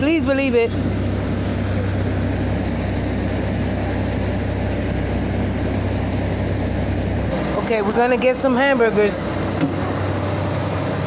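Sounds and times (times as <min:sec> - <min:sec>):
boat engine droning: 0:00.0 - 0:11.0
rushing water noise: 0:00.0 - 0:11.0.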